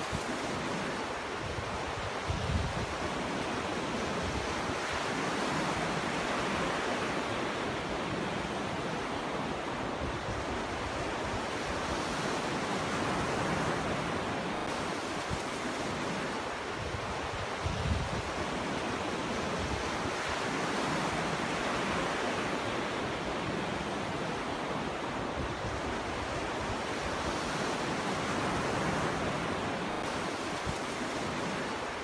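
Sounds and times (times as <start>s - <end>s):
ocean surf breaking on beach: 0.0s - 32.0s.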